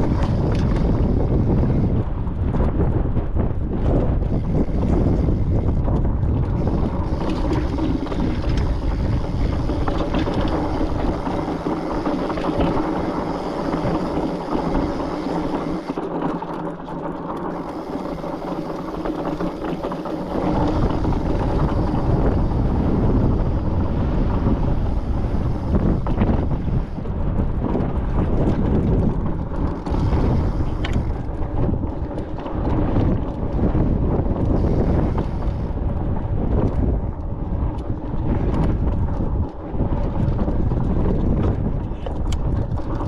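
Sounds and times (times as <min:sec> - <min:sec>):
bike tyres rolling on rock: 0:00.0 - 0:43.0
wind buffeting microphone: 0:00.0 - 0:43.0.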